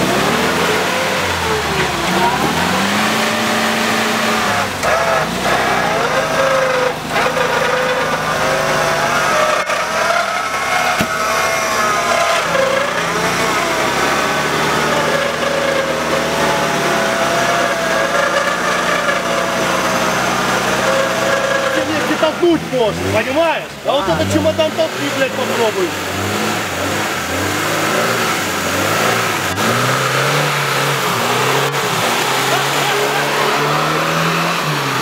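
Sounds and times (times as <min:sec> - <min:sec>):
engine running hard: 0:00.0 - 0:35.0
wheels spinning in mud: 0:00.0 - 0:35.0.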